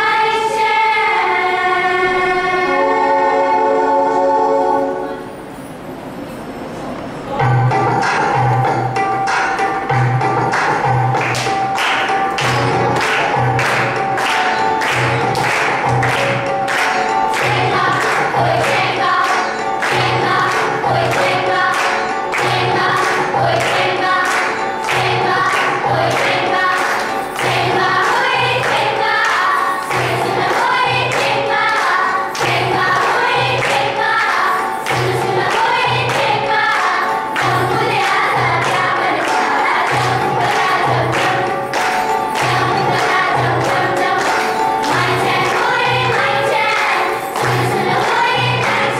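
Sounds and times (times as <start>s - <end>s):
choral singing: 0.0s - 5.3s, 12.5s - 48.9s.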